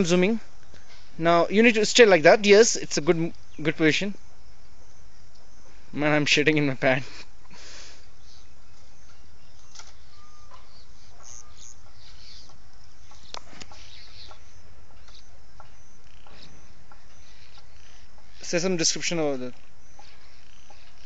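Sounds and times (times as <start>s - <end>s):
faint bird calls and chirps: 0.0s - 21.0s.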